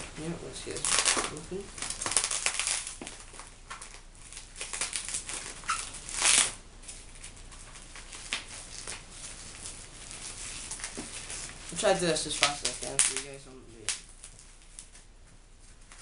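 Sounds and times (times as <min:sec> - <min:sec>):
packaging crinkling and tearing: 0:00.2 - 0:15.1.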